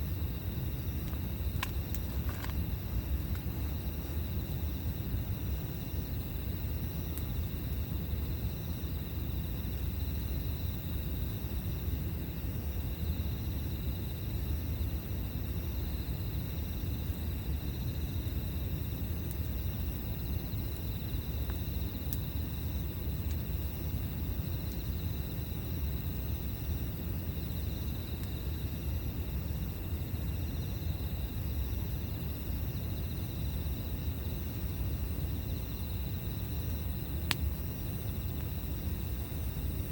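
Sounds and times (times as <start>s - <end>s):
campfire crackles: 0.0s - 39.9s
crickets chirping: 0.0s - 39.9s.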